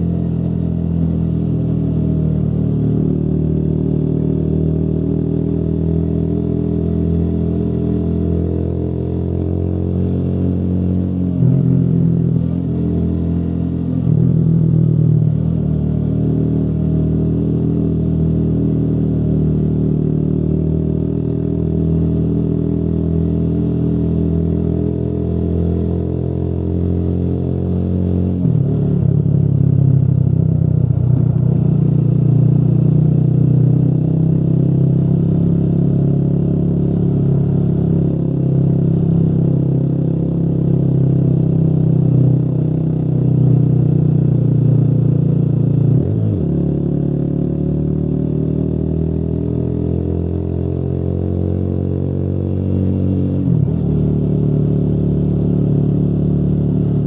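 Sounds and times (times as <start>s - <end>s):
motorcycle engine revving: 0.0s - 57.0s
motorcycle engine running: 0.0s - 57.0s.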